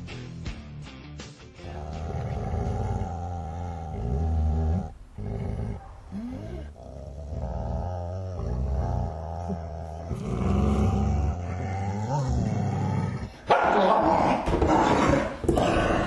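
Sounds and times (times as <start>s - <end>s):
dog growling: 1.6s - 16.0s.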